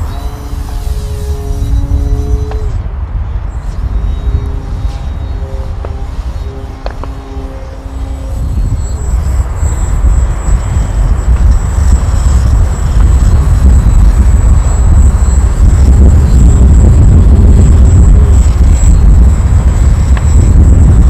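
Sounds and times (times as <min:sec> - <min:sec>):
model plane motor whine: 0:00.0 - 0:21.0
wind buffeting microphone: 0:00.0 - 0:21.0.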